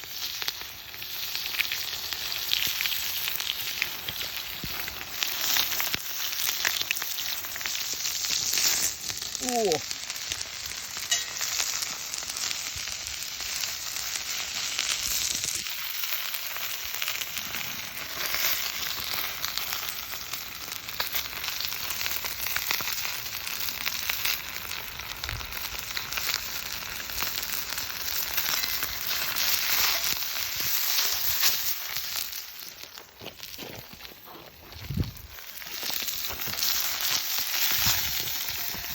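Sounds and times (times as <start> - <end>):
chicken sizzling in a frying pan: 0.0 - 33.6, 34.8 - 38.9.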